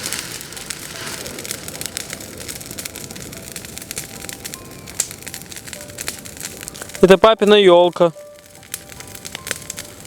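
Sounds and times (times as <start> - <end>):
campfire crackling: 0.0 - 10.0
steady fire hiss: 0.0 - 10.0.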